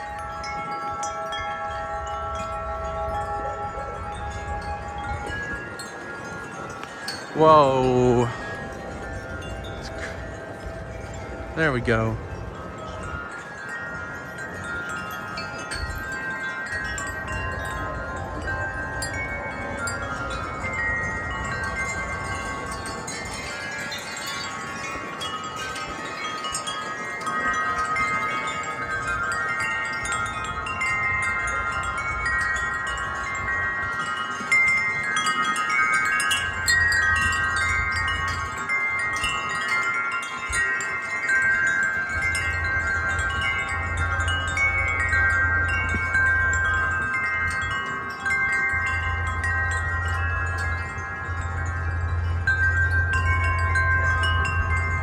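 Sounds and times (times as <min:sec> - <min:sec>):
wind chimes ringing: 0:00.0 - 0:55.0
wind rumble on microphone: 0:00.0 - 0:55.0.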